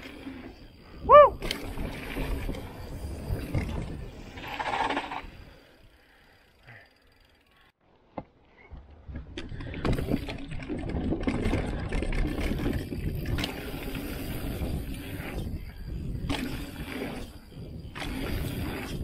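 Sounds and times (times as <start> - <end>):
wind rushing over camera: 0.0 - 5.6, 8.9 - 19.0
bike tyres rumbling on dirt: 0.0 - 5.8, 8.8 - 19.0
bike clicks and rattles: 0.0 - 19.0.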